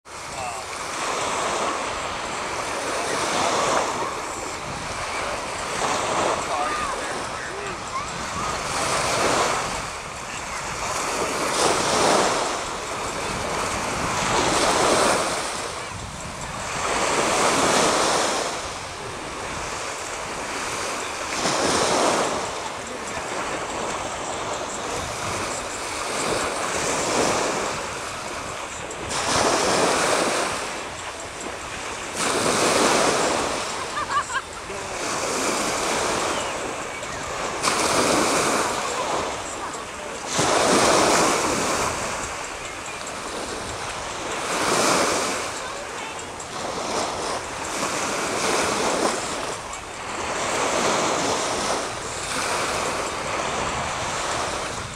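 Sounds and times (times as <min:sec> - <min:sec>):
small waves breaking: 0:00.0 - 0:54.9.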